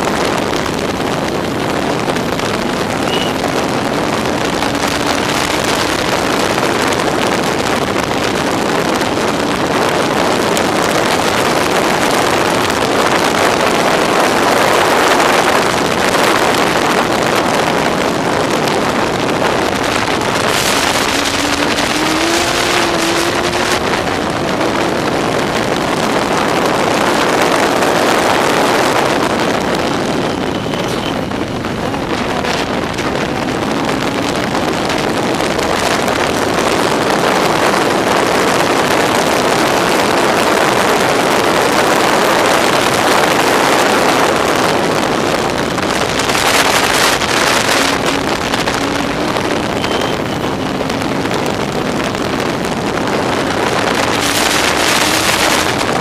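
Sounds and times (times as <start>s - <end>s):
engine running hard: 0.0s - 56.0s
wind on microphone: 0.0s - 56.0s.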